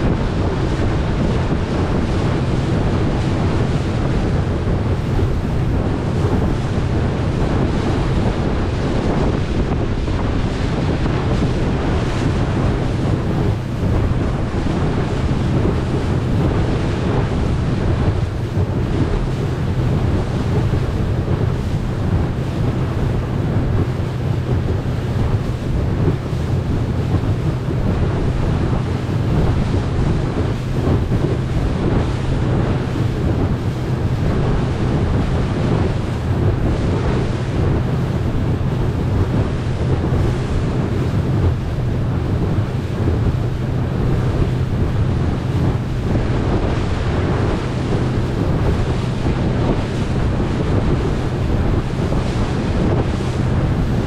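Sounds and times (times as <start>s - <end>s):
motorboat engine droning: 0.0s - 54.0s
water rushing past hull: 0.0s - 54.0s
wind buffeting microphone: 0.0s - 54.0s.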